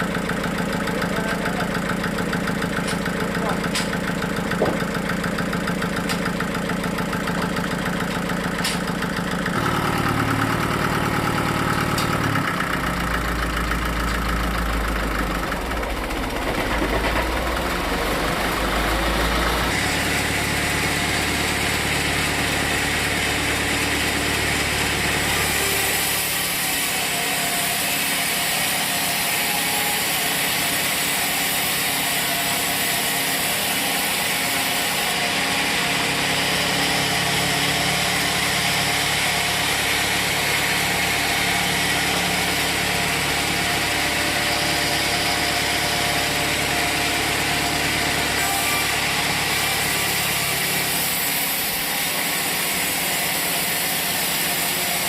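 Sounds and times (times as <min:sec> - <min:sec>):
sawmill machinery engine running: 0:00.0 - 0:55.0.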